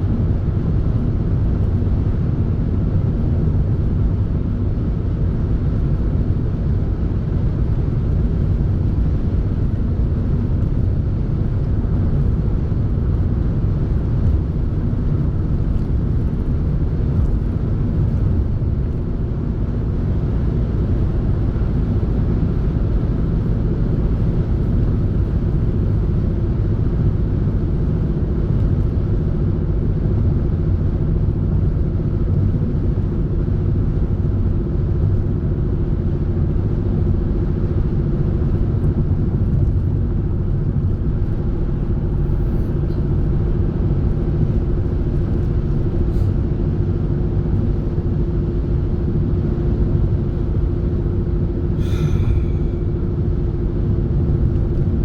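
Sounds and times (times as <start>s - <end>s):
motor vehicle rumbling: 0.0s - 55.0s.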